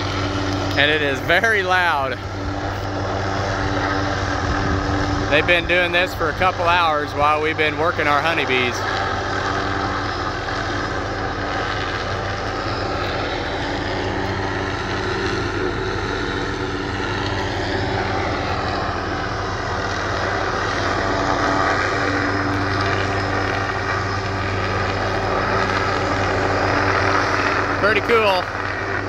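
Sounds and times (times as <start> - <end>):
helicopter hovering drone: 0.0 - 29.0.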